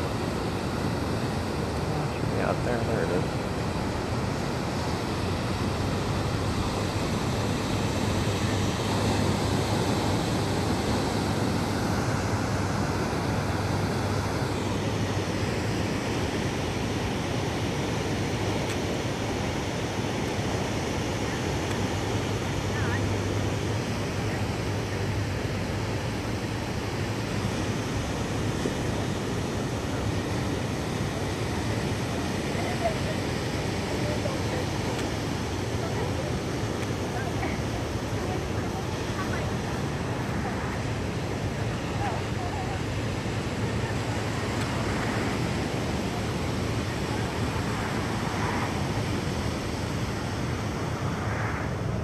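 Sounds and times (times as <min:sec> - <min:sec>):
wind: 0:00.0 - 0:52.0.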